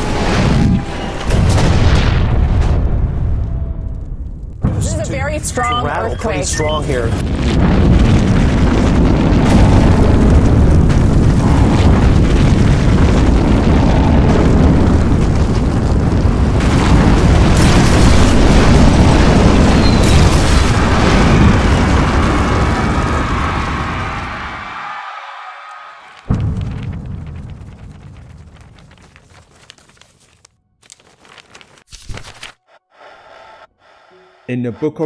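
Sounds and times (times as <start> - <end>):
earthquake low rumble: 0.0 - 25.0, 25.9 - 30.4.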